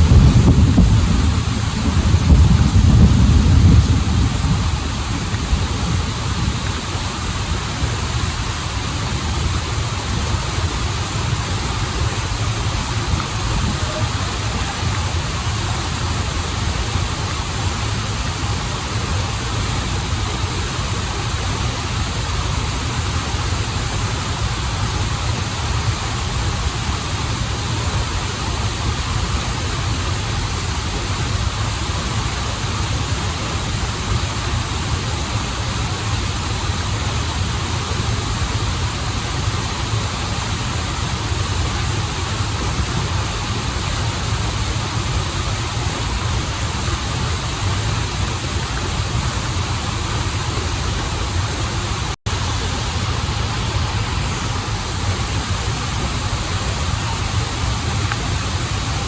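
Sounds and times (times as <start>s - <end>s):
waterfall and stream rushing: 0.0s - 59.0s.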